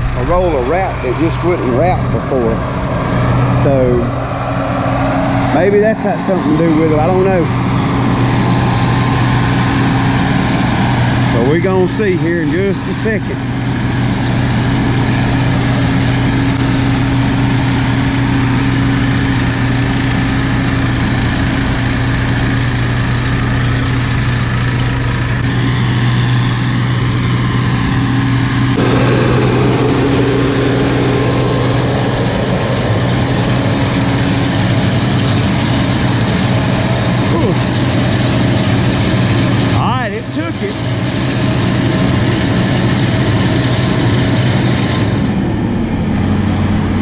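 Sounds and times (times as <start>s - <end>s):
diesel tractor engines running: 0.0s - 47.0s
round baler running: 0.0s - 47.0s.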